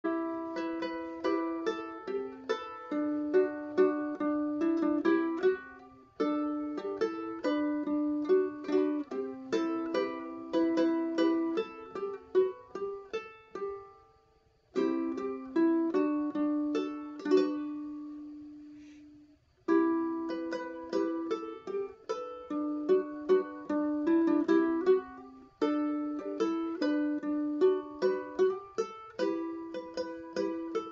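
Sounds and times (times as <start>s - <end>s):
ukulele fingerpicking: 0.0s - 19.0s, 19.6s - 30.9s.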